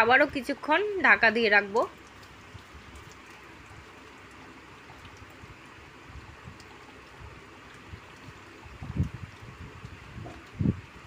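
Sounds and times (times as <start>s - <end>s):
curry simmering in a pan: 0.4s - 11.0s.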